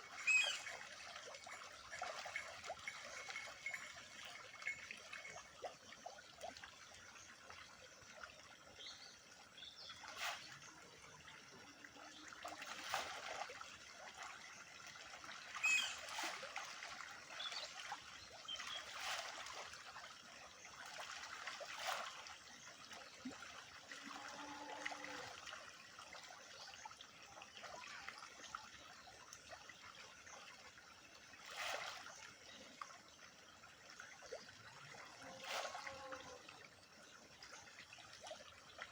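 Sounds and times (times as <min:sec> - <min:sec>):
faint trickling water: 0:00.0 - 0:38.9
short water splashes: 0:00.0 - 0:38.9.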